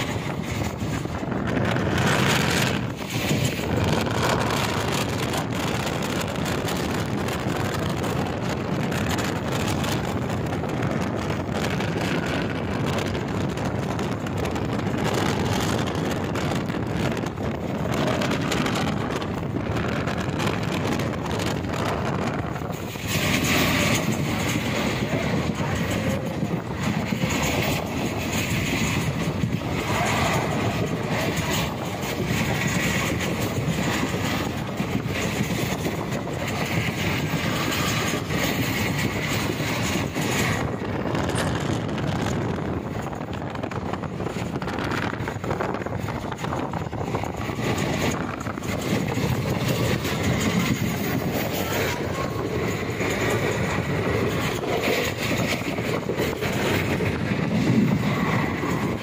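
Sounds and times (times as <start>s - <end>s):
rail clicks: 0.0s - 59.0s
rushing air: 0.0s - 59.0s
train wheels rumbling on rails: 0.0s - 59.0s.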